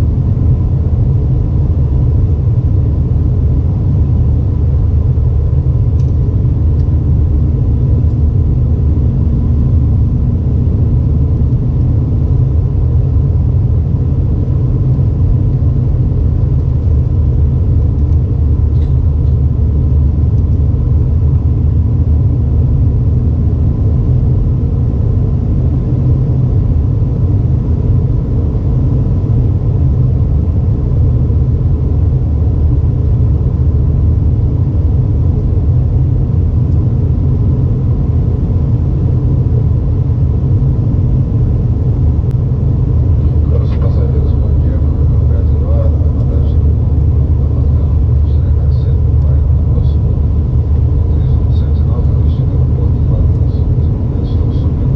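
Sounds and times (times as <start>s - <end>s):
airplane cabin rumble: 0.0s - 54.9s
faint steady hum: 0.0s - 54.9s.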